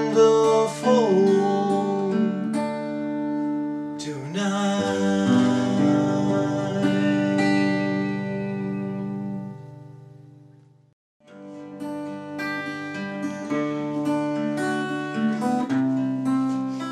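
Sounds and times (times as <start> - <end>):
fingerpicked acoustic guitar: 0.0 - 16.9.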